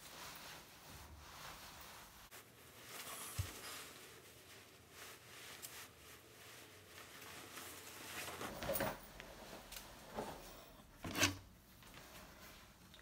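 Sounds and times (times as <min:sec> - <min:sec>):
clothing rustling: 0:00.0 - 0:12.9
soft handling noises: 0:00.0 - 0:13.0.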